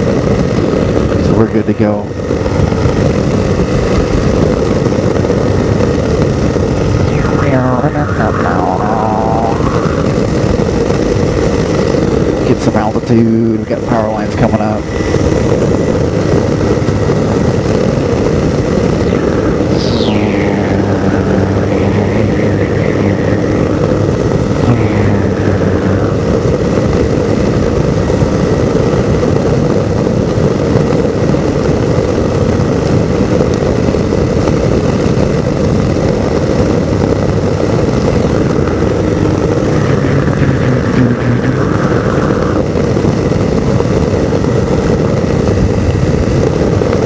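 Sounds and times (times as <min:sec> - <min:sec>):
aircraft engine and propeller droning: 0:00.0 - 0:47.0.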